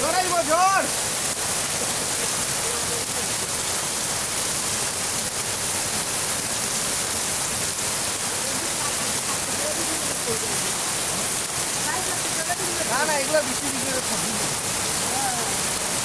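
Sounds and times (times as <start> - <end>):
heavy rain on pavement: 0.0 - 16.0
roof runoff splashing on paving: 0.0 - 16.0.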